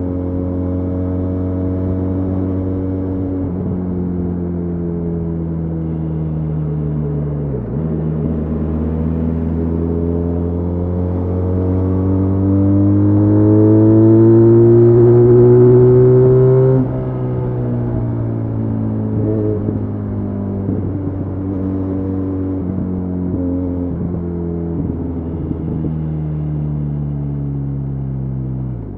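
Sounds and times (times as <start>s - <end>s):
motorcycle engine accelerating hard: 0.0s - 28.9s.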